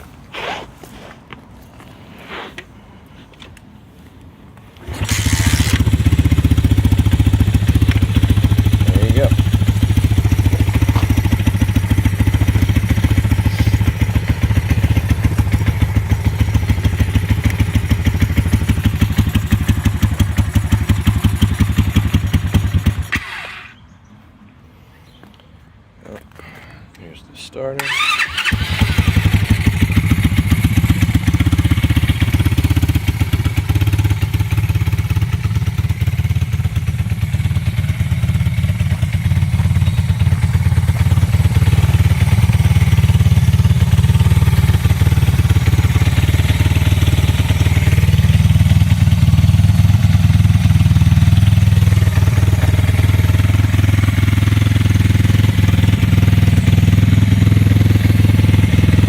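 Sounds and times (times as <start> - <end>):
dirt bike engine idling: 4.9 - 23.2, 27.9 - 59.0.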